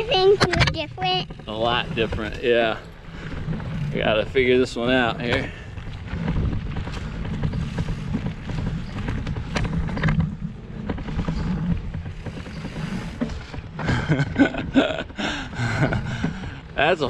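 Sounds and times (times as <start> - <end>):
bike clicks and rattles: 0.0 - 17.0
bike tyres rumbling on dirt: 0.0 - 17.0
wind on microphone: 0.0 - 17.0.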